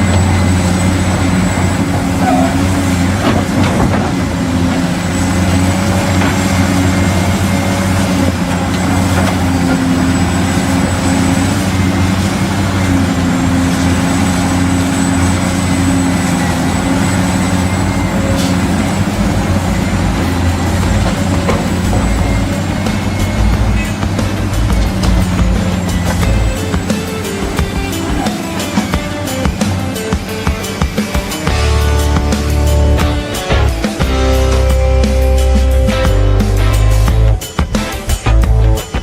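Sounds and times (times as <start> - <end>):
machine drone with whine: 0.0 - 39.0.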